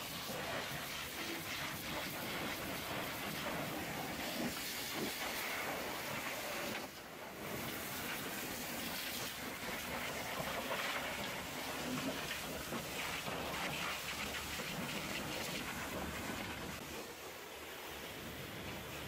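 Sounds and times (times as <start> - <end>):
pressure washer spraying metal: 0.0 - 16.8.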